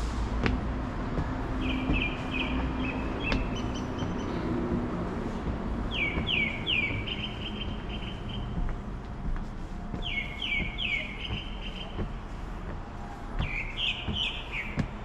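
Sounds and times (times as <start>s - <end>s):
low background rumble: 0.0s - 15.0s
songbird singing: 1.0s - 15.0s.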